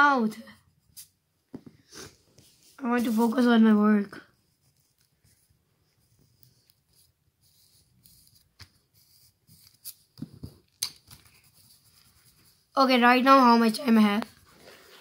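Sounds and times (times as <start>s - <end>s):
pencil scratching on paper: 1.9s - 15.0s.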